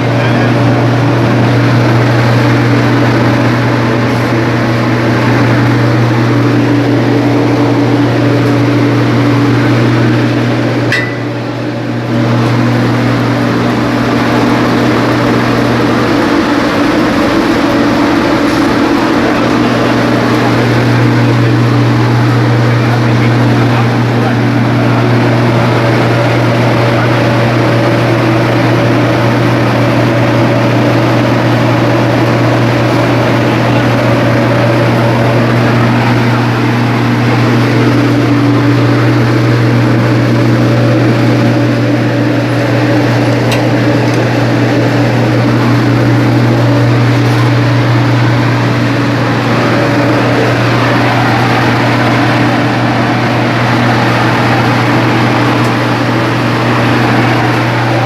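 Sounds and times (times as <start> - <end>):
dryer machine drone: 0.0 - 58.0.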